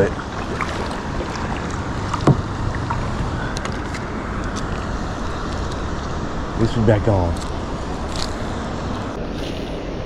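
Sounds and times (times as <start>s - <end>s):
rushing water: 0.0s - 10.0s
wind: 0.0s - 10.0s.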